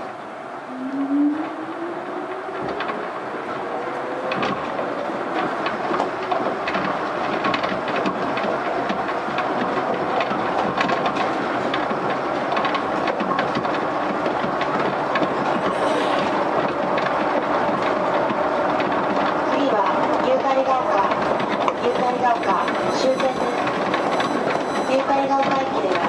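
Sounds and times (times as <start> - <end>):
train rolling rumble: 0.0 - 26.0
sharp clicks and knocks: 4.3 - 26.0.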